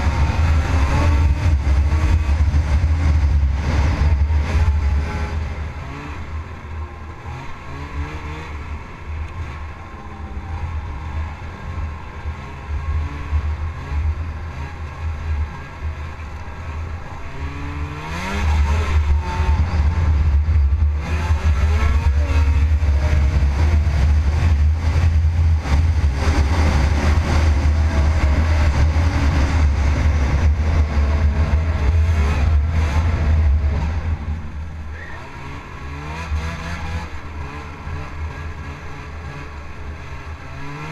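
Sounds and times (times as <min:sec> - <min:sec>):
snowmobile engine running: 0:00.0 - 0:08.8, 0:09.5 - 0:40.9.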